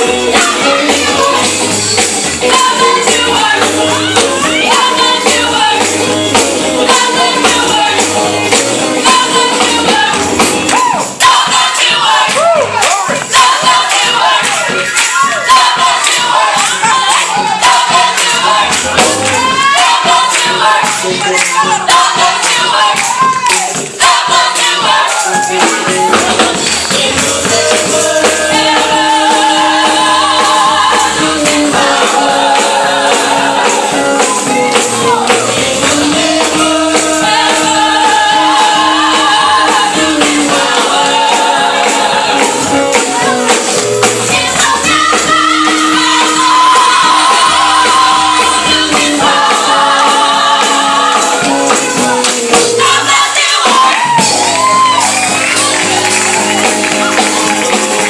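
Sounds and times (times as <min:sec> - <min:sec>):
bass line: 0:00.0 - 0:53.2, 0:54.0 - 0:58.0
band playing: 0:00.0 - 0:58.0
gospel choir singing: 0:00.0 - 0:58.0
tambourine shaking: 0:00.0 - 0:58.0.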